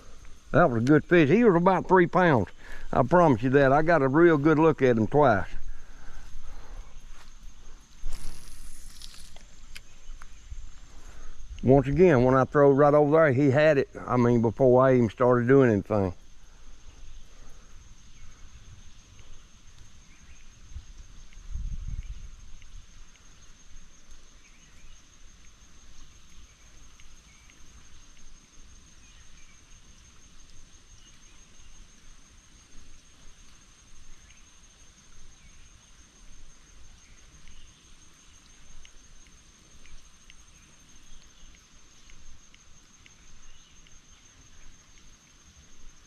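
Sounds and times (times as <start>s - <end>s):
fainter higher insect trill: 0.0s - 46.0s
high-pitched insect trill: 0.0s - 46.0s.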